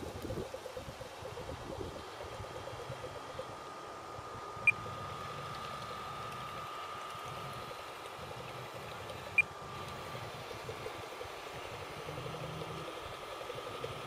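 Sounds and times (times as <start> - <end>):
thin motor whine: 0.0 - 14.0.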